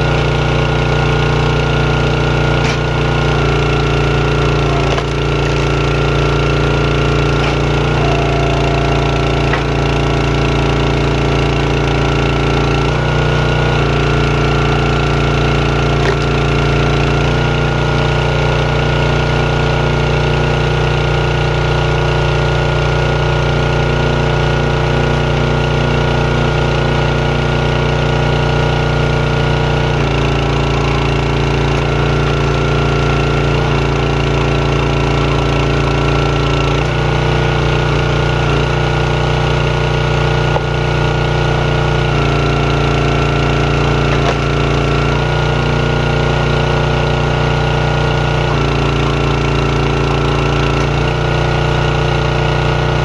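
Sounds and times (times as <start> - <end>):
log splitter engine running: 0.0 - 53.0.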